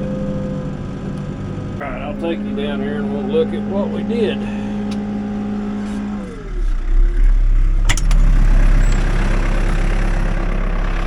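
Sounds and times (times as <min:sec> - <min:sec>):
backhoe diesel engine: 0:00.0 - 0:11.0.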